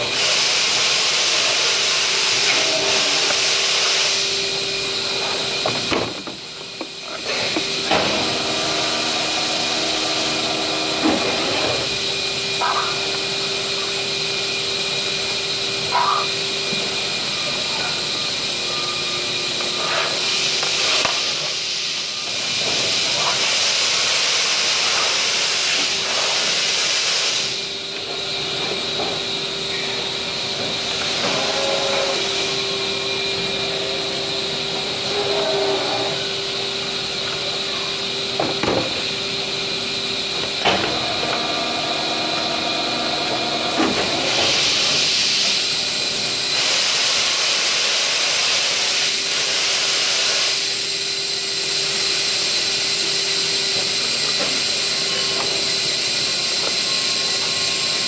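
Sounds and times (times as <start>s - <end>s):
machine hiss: 0.0s - 58.0s.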